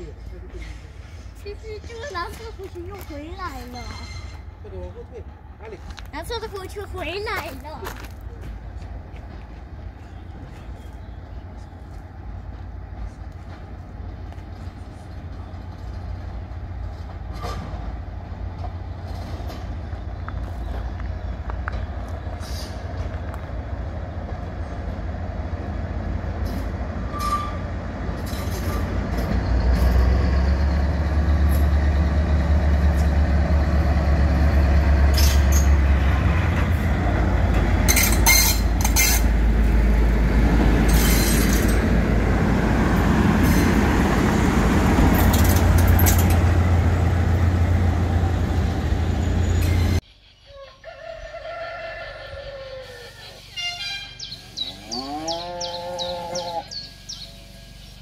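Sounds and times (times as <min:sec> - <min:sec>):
locomotive engine rumble: 0:00.0 - 0:50.0.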